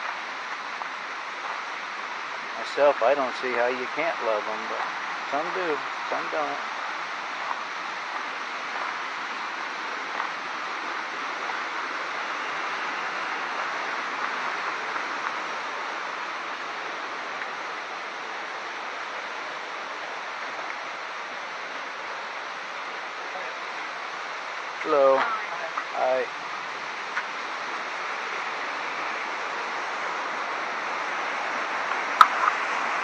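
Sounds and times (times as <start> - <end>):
fast-flowing river water: 0.0 - 33.0.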